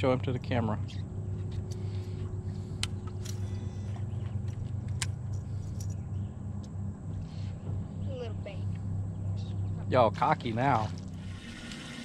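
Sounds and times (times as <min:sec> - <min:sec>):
boat motor hum: 0:00.0 - 0:12.0.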